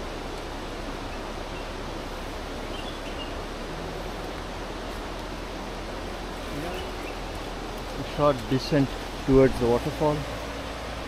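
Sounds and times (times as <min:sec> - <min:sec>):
outdoor ambience rushing noise: 0:00.0 - 0:11.0.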